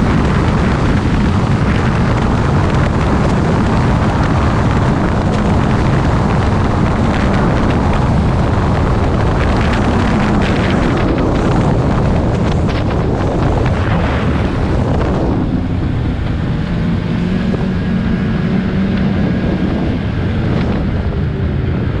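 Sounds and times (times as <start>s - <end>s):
snowmobile engine running: 0.0s - 22.0s
wind rush on microphone: 0.0s - 22.0s.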